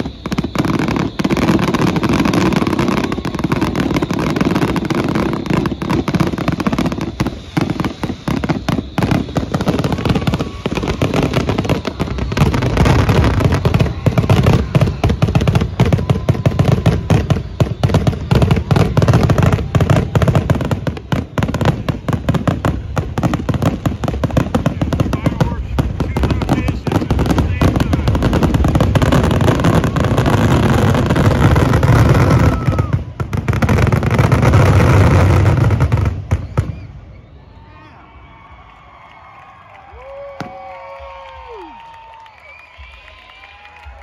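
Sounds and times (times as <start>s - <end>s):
fireworks shells bursting: 0.0s - 36.6s.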